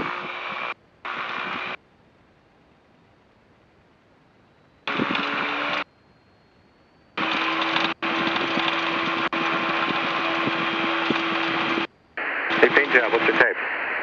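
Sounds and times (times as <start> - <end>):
radio engine hum and hiss: 0.0 - 14.0.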